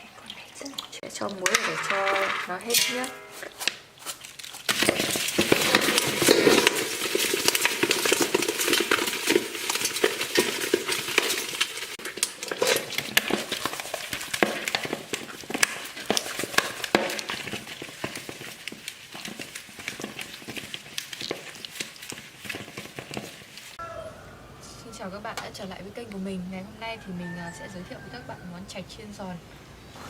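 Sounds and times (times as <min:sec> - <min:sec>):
fish wriggling in a basin: 0:00.0 - 0:23.8, 0:26.8 - 0:28.9.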